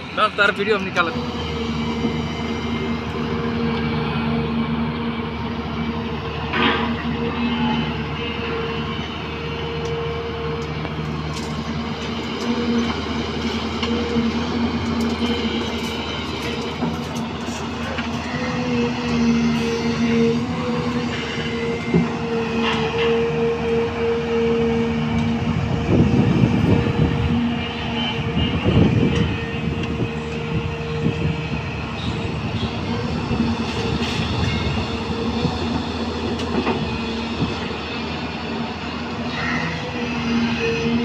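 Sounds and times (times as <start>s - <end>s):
excavator engine and hydraulic hum: 0.0s - 41.0s.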